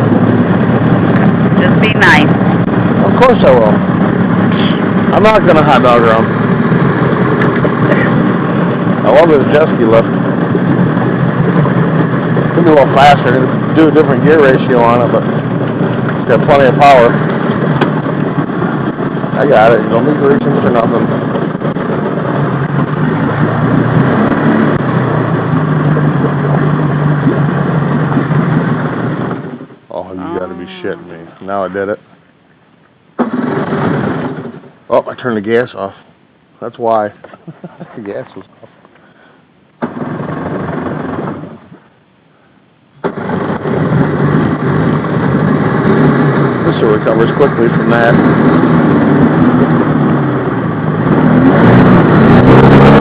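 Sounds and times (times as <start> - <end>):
jet ski engine running: 0.0 - 32.5, 33.2 - 35.6, 36.9 - 42.0, 43.0 - 53.0.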